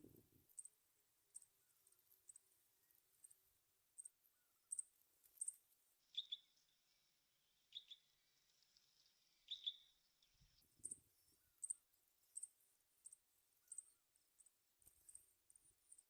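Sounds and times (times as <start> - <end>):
songbird chirps: 0.0 - 16.0.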